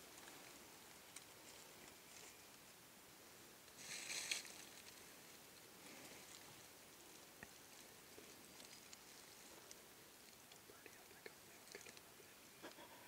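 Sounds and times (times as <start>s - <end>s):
soft rustle: 0.0s - 12.7s.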